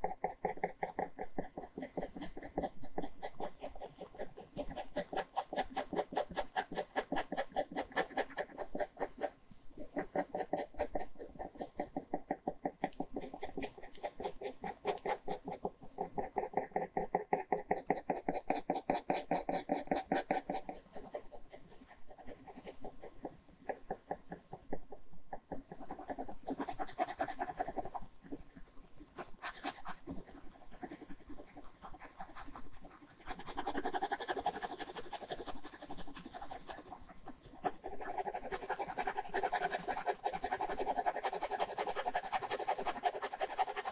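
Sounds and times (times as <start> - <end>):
ballpoint pen scratching on paper: 0.0 - 43.9.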